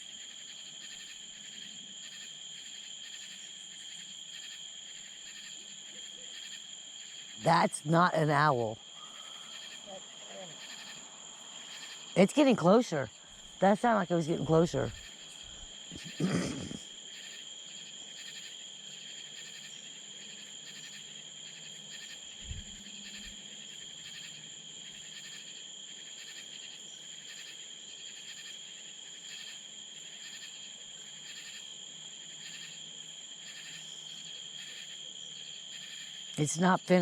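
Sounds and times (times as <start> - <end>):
crickets and insects trilling: 0.0 - 37.0.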